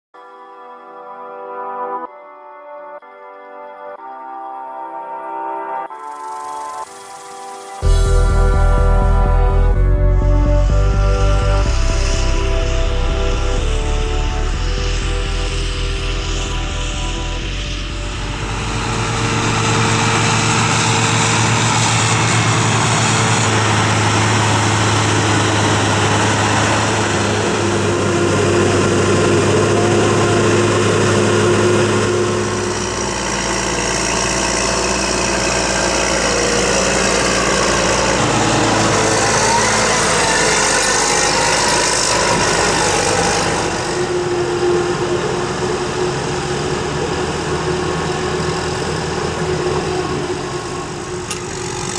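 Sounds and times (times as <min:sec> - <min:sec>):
farm machinery engines droning: 0:07.8 - 0:51.9.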